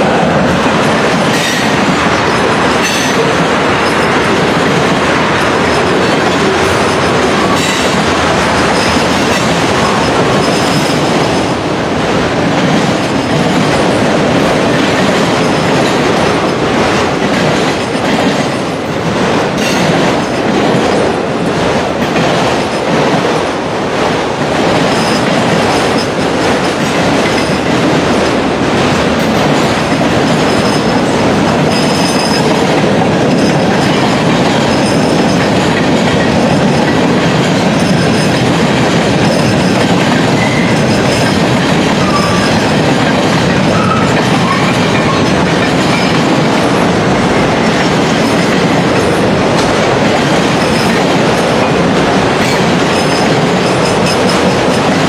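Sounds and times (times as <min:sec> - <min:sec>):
freight train wheels rumbling: 0:00.0 - 0:55.0
wheels clicking over rail joints: 0:00.0 - 0:55.0.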